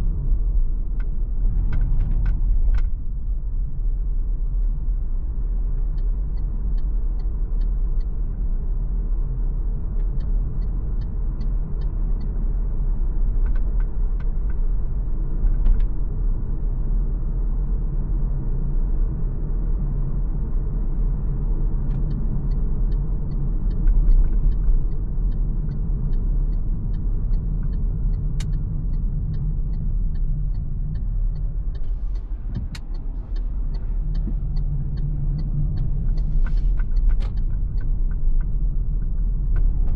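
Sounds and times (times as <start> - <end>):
car tyres and drivetrain rumble: 0.0 - 39.9.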